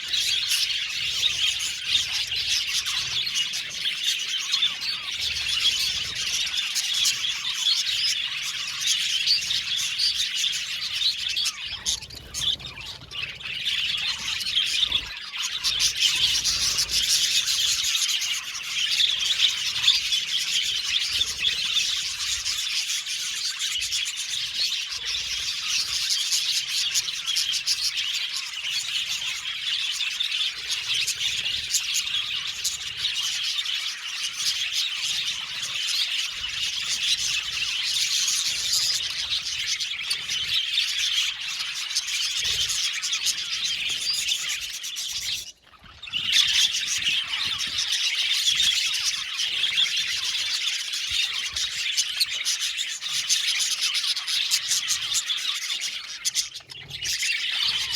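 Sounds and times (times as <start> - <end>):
budgerigars chirping and chattering: 0.0 - 57.9.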